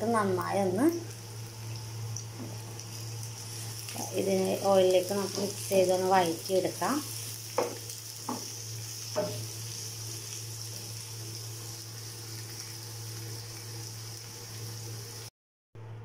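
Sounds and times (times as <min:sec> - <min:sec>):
onions sizzling in hot oil: 0:00.0 - 0:15.3.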